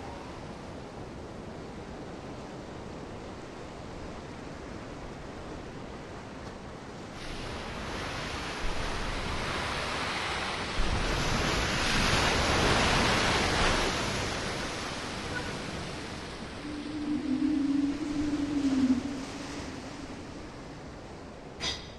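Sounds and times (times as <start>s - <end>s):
sea waves washing on shore: 3.4s - 21.7s.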